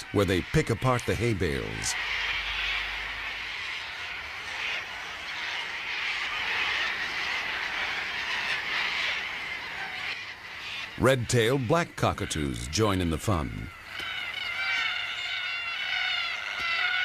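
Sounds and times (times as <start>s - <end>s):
cockatoos screeching: 0.0s - 17.0s.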